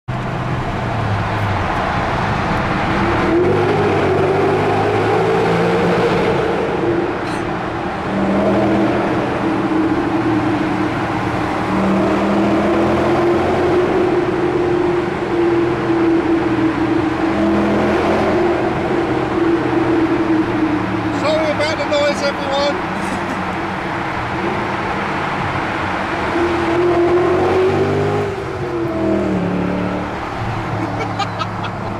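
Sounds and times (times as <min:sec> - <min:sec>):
car engine accelerating hard: 0:00.1 - 0:31.9.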